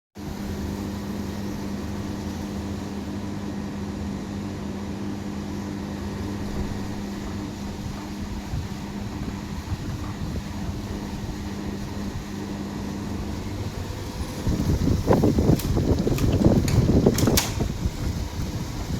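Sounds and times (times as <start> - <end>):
window air conditioner humming: 0.2 - 18.9.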